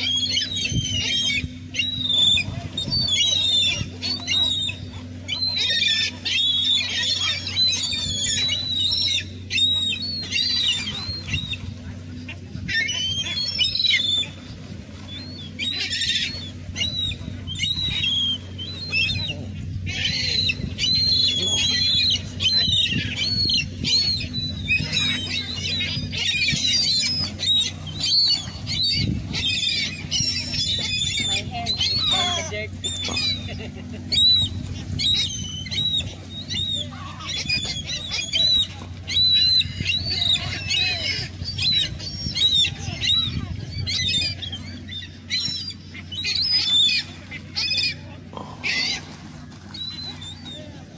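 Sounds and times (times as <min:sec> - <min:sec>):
gulls calling: 0:00.0 - 0:50.9
low hum: 0:00.0 - 0:50.9.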